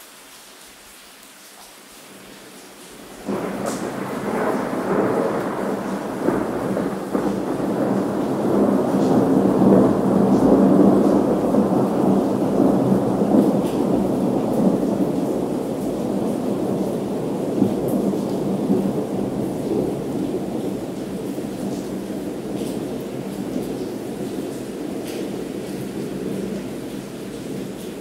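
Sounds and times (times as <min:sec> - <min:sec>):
rain falling: 0:00.0 - 0:28.0
thunder rumbling: 0:02.9 - 0:28.0.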